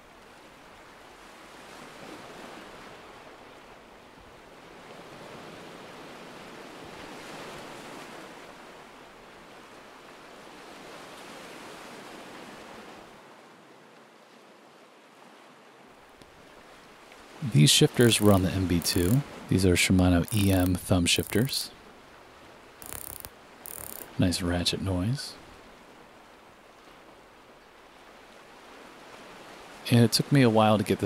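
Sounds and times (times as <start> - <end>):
ocean waves washing ashore: 0.0 - 31.0.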